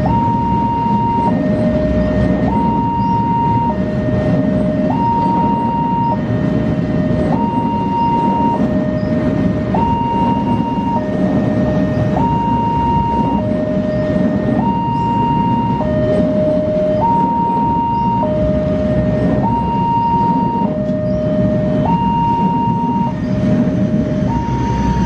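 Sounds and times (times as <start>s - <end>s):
level crossing two-tone alarm: 0.0s - 25.0s
passing train rumble: 0.0s - 25.0s.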